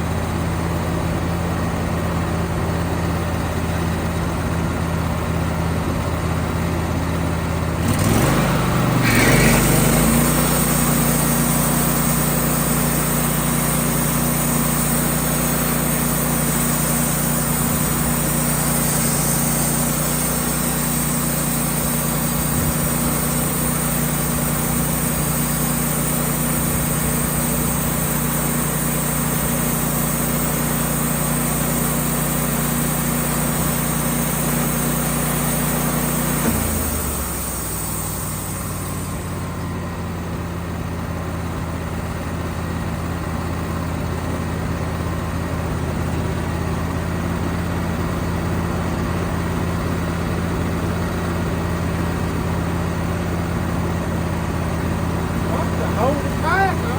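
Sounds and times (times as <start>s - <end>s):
gas engine running: 0.0s - 56.9s.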